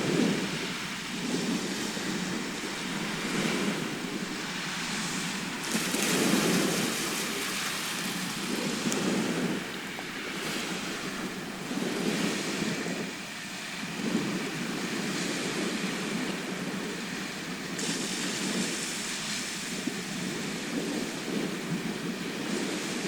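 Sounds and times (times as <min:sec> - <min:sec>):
sea surf washing onto shore: 0:00.0 - 0:23.0.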